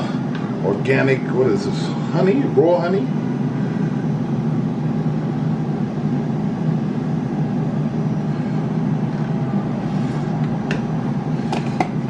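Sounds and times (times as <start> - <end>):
air fryer fan hum: 0.0 - 12.0.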